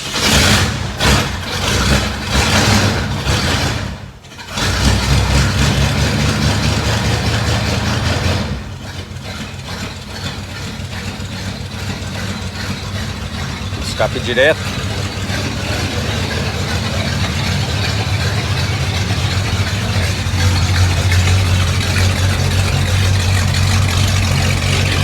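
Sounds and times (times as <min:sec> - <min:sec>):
car engine idling: 0:00.0 - 0:25.0
car engine revving: 0:00.0 - 0:25.0.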